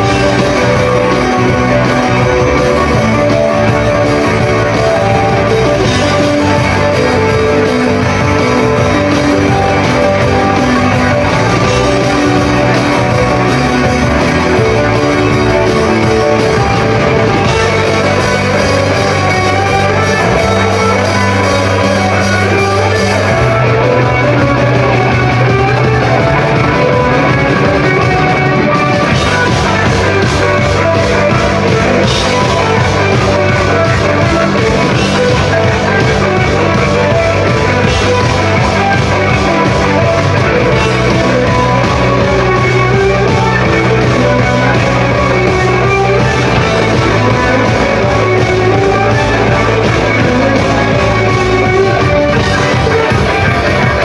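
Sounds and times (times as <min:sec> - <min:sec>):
low bass notes: 0:00.0 - 0:54.0
rock band playing live: 0:00.0 - 0:54.0.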